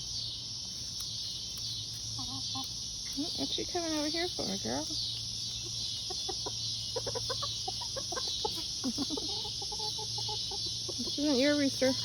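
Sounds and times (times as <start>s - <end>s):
hen clucking: 0.9s - 12.0s.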